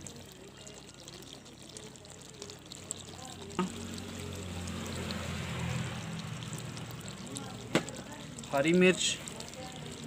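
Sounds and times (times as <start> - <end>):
gravy simmering and bubbling: 0.0 - 10.0.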